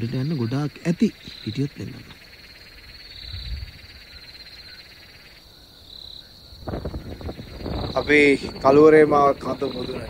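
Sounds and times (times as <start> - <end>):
insects and frogs calling: 0.0 - 10.0.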